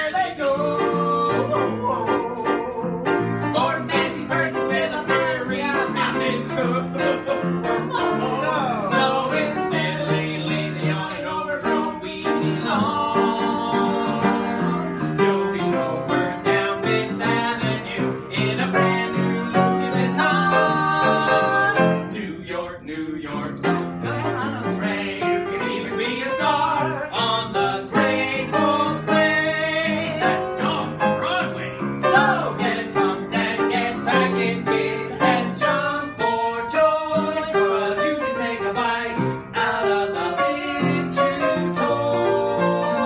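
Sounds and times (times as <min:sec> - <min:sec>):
upright piano playing: 0:00.0 - 0:43.0
voices singing: 0:00.0 - 0:43.0.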